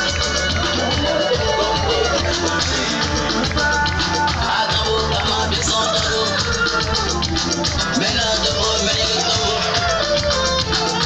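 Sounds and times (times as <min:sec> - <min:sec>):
loud music with bass line: 0:00.0 - 0:11.0.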